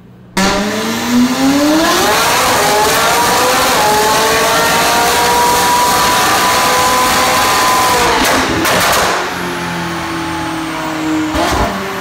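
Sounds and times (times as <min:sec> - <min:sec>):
car engine revving loud: 0:00.4 - 0:12.0.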